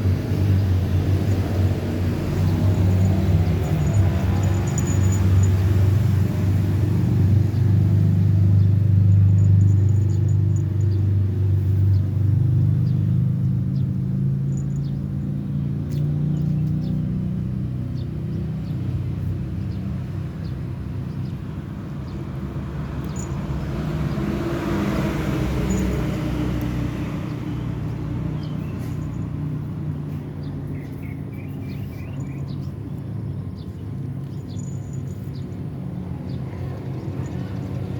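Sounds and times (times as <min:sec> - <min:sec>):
low motor rumble: 0:00.0 - 0:37.9.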